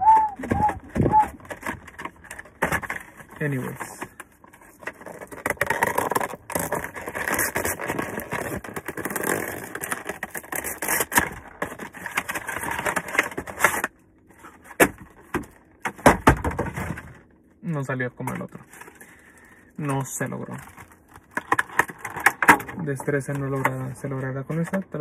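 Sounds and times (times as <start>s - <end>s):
packaging crinkling and scraping: 0.2s - 17.4s, 18.4s - 25.0s.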